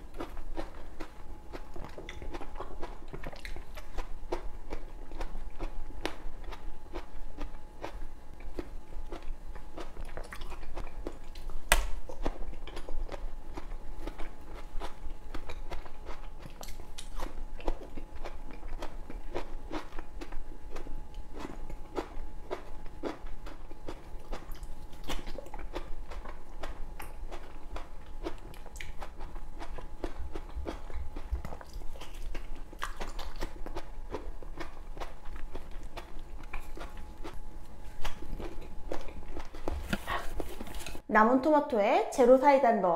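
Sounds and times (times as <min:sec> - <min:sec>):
biting and chewing: 0:00.0 - 0:41.0.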